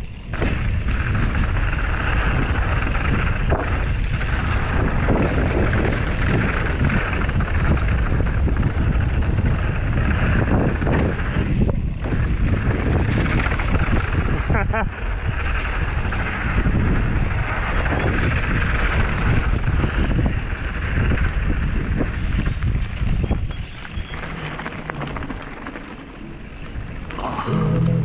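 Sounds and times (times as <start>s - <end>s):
bike tyres rumbling on gravel: 0.0s - 28.0s
wind on microphone: 0.0s - 28.0s.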